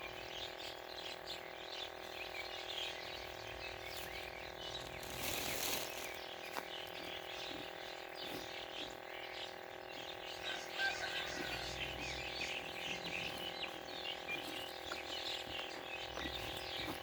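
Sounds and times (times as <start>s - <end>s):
small birds chirping: 0.0s - 17.0s
steady hum of tones: 0.0s - 17.0s.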